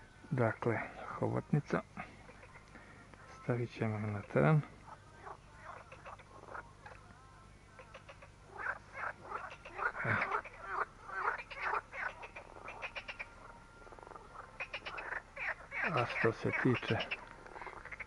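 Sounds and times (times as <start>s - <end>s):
frogs croaking: 0.0s - 18.0s.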